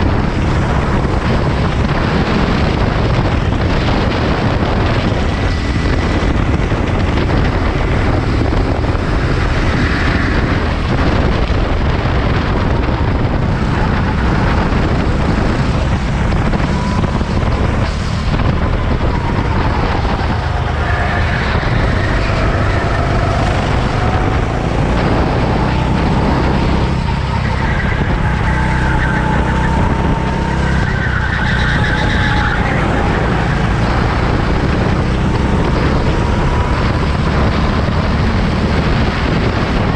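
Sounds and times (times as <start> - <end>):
low rumble: 0.0 - 39.9
racing engines: 0.0 - 39.9.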